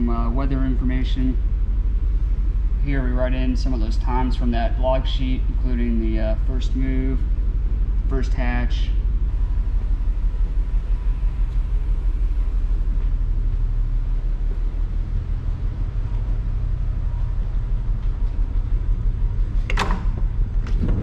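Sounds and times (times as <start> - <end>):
ship machinery rumble and hum: 0.0 - 21.0.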